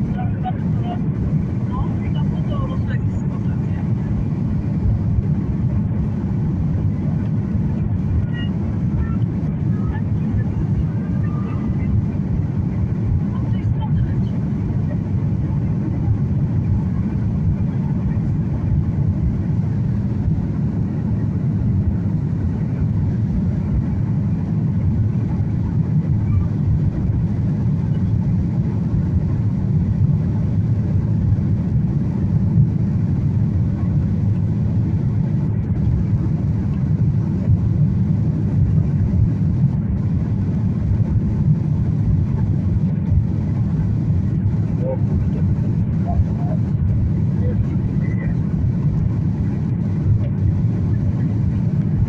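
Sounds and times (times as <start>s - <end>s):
airliner cabin engine drone: 0.0s - 52.0s.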